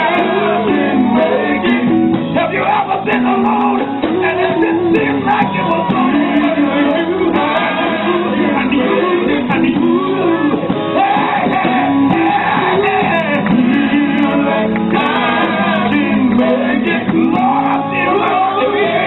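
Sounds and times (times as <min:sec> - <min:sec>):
gospel band playing: 0:00.0 - 0:19.0
person singing: 0:00.0 - 0:19.0.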